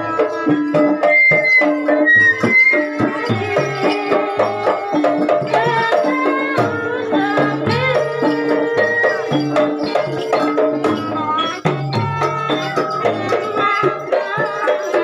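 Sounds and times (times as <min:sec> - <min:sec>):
hand drums and pitched percussion: 0:00.0 - 0:15.0.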